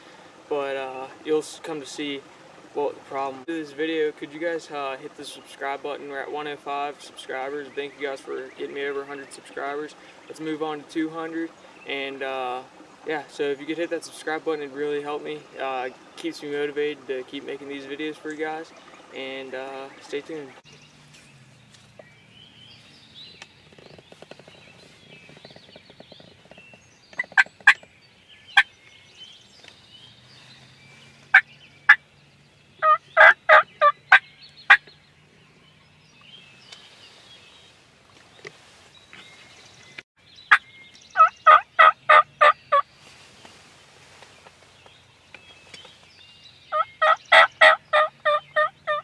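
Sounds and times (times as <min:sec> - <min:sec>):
wild turkey calling: 0:00.0 - 0:16.3, 0:17.0 - 0:21.0, 0:22.0 - 0:32.1, 0:32.8 - 0:35.9, 0:40.4 - 0:44.3, 0:44.9 - 0:49.0.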